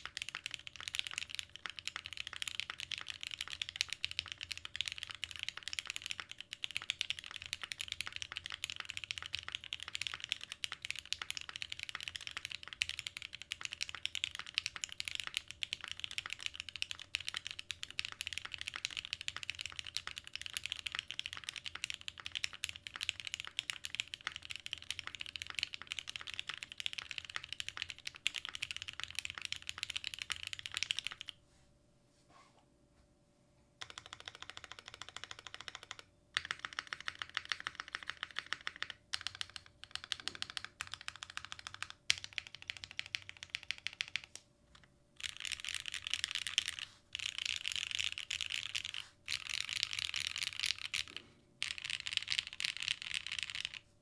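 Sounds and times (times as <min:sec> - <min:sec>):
mechanical keyboard typing: 0:00.0 - 0:31.4, 0:33.8 - 0:53.8.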